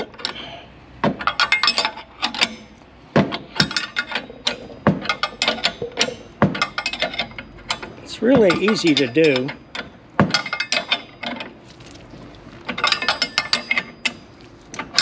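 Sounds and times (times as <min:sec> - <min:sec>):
wrenches clinking on nut: 0:01.2 - 0:02.8, 0:03.4 - 0:11.6, 0:12.7 - 0:15.0.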